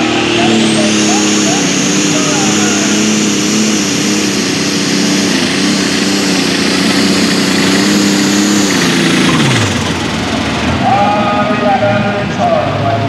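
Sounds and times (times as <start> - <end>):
high whine: 0.0 - 13.0
tractor engine droning under load: 0.0 - 13.0.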